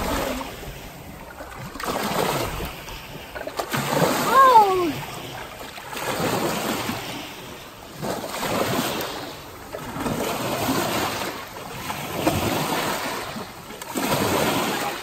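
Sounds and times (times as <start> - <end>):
small waves washing in: 0.0 - 15.0
water sloshing and splashing: 0.0 - 15.0.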